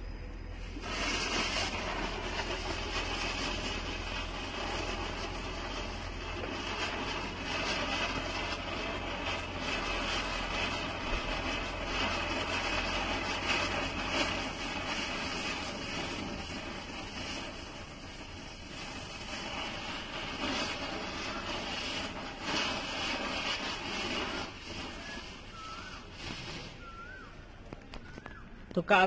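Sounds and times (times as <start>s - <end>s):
spinner firework hissing and crackling: 0.0s - 29.0s.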